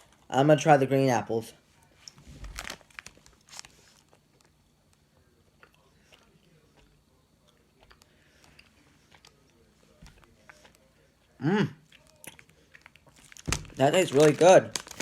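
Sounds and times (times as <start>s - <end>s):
soft candy chewing: 1.6s - 15.0s.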